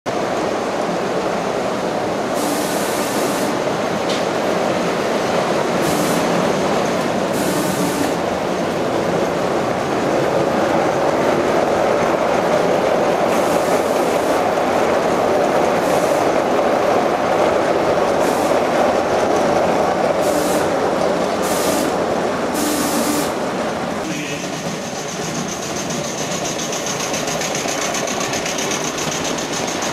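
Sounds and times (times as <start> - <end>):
model train wheels rumbling on rails: 1.1 - 29.9.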